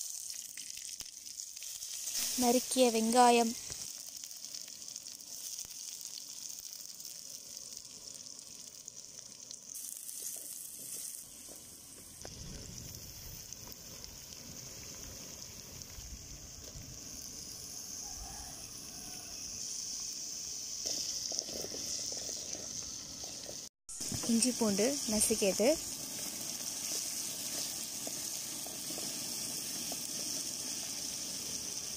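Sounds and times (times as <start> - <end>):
onions sizzling in oil: 0.0 - 31.9.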